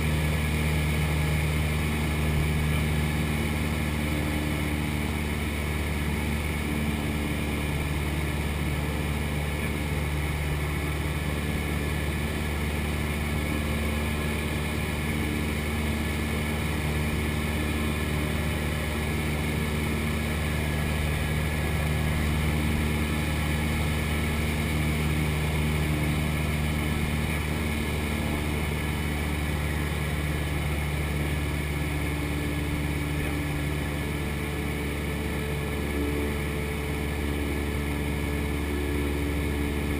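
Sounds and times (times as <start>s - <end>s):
airplane engine and propeller droning: 0.0s - 39.9s.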